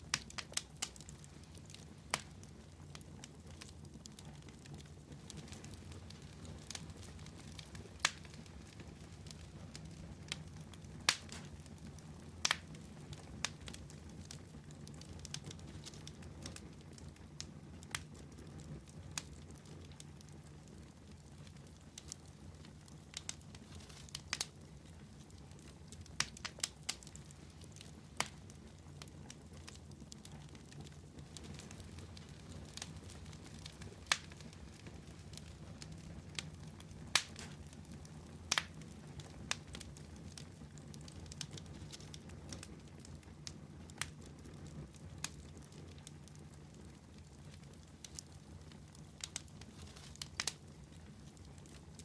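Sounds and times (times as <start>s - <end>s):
campfire crackling and popping: 0.0s - 52.0s
low rush of flames: 0.0s - 52.0s.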